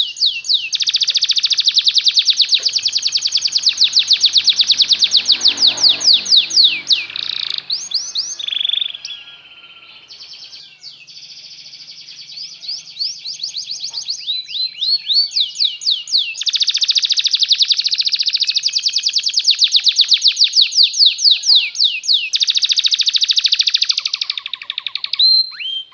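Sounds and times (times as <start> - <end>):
canary singing trills: 0.0 - 25.9.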